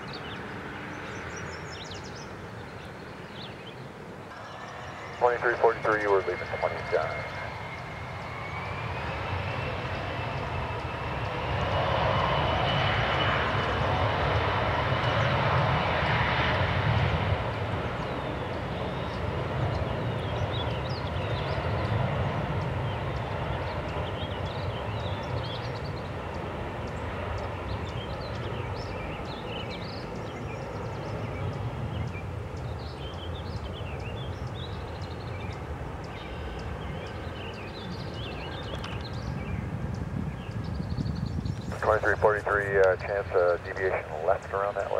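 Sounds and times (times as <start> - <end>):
jet engines whining: 0.0 - 44.9.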